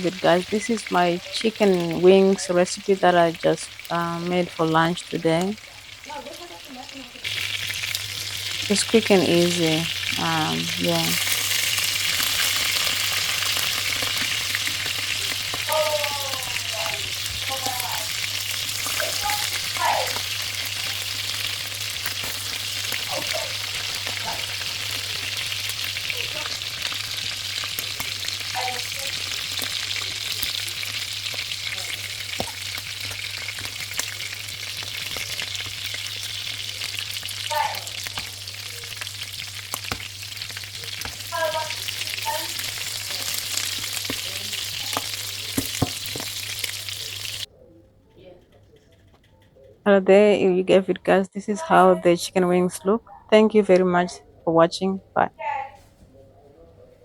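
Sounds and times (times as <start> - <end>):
chicken frying in hot oil: 0.0 - 47.5.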